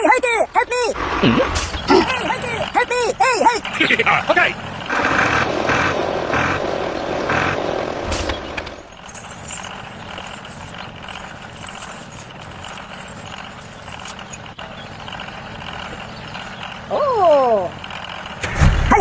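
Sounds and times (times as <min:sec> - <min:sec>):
vehicle running: 0:00.0 - 0:19.0.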